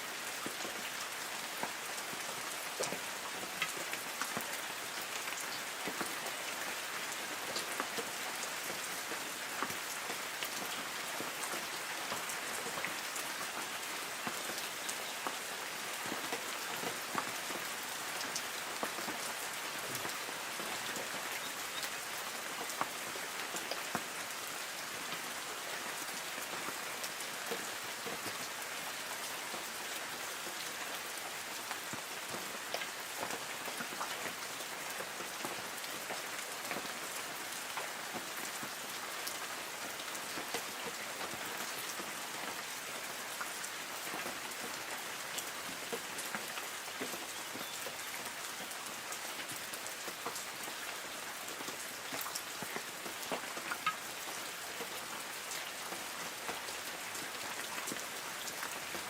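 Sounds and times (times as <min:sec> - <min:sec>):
raindrops pattering on leaves: 0:00.0 - 0:59.0
soft hiss of rain: 0:00.0 - 0:59.0.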